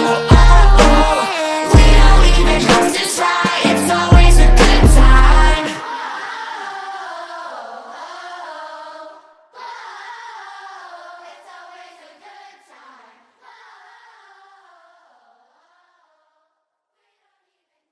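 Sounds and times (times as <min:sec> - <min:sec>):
choir-like vocal harmonies: 0:00.0 - 0:16.5.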